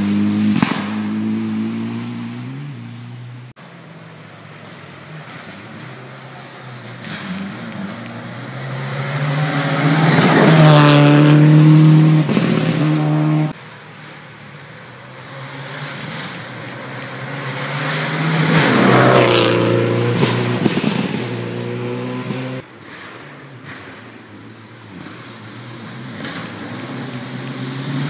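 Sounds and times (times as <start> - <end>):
rally cars racing past: 0.0 - 28.0.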